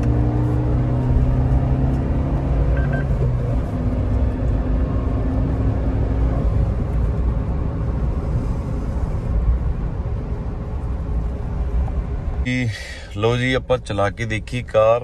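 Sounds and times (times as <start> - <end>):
car engine running: 0.0 - 13.0
road and tyre rumble: 0.0 - 15.0.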